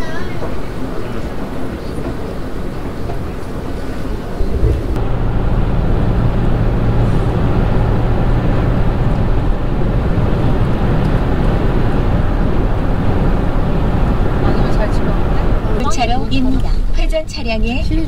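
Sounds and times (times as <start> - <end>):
vehicle cabin rumble: 0.0 - 18.0.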